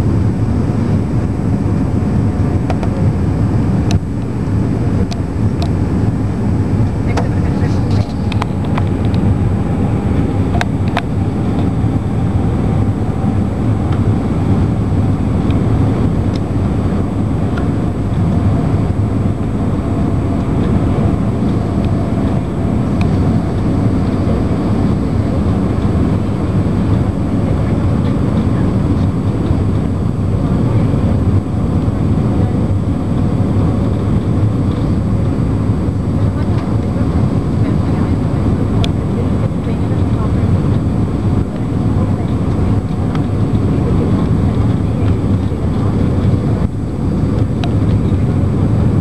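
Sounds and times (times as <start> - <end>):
aircraft cabin engine noise: 0.0 - 49.0.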